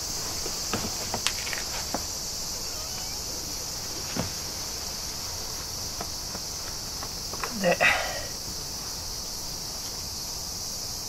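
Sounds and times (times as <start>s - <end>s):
high-pitched insect chirring: 0.6s - 10.8s.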